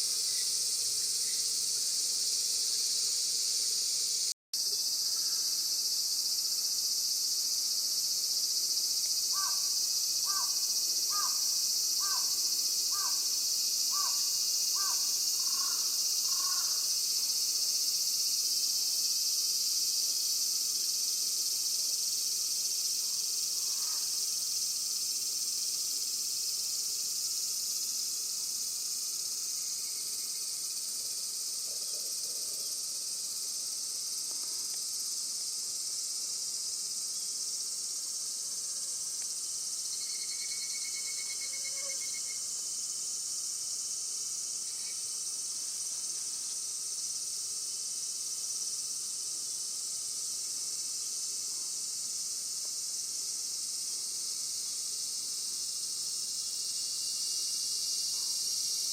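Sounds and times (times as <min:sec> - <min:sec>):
insects shrilling: 0:00.0 - 0:58.9.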